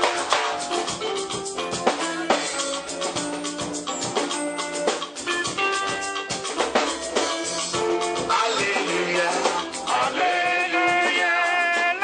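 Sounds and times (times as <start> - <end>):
music with drum kit: 0.0 - 12.0.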